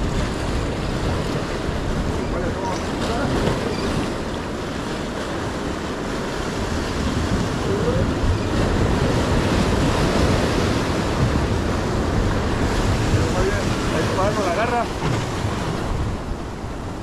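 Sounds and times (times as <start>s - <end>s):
surf breaking over rocks: 0.0s - 17.0s
wind buffeting microphone: 0.0s - 17.0s.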